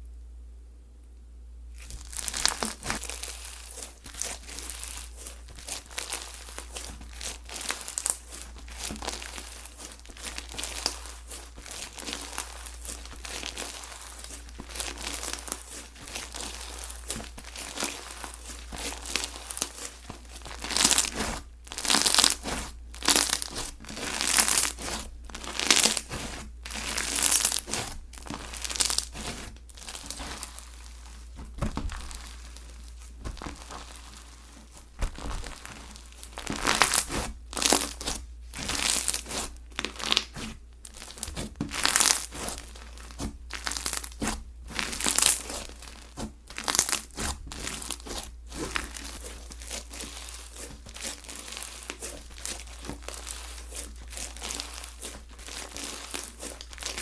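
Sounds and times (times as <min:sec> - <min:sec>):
slime crackling and squishing: 0:01.7 - 0:57.0.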